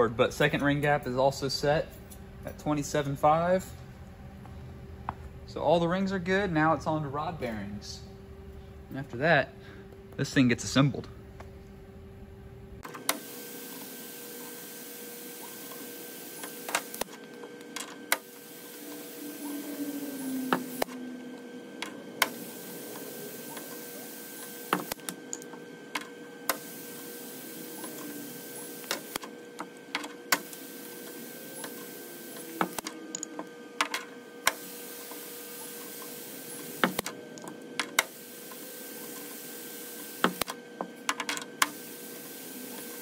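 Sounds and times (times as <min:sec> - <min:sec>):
steady background hum: 0:00.0 - 0:43.0.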